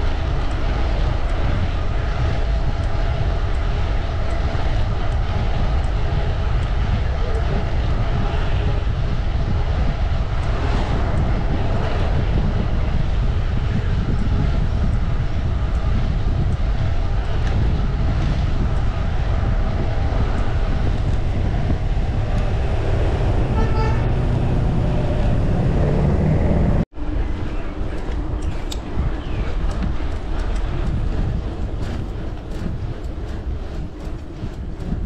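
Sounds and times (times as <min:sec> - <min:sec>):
low rumble: 0:00.0 - 0:35.0
wind buffeting microphone: 0:00.0 - 0:35.0.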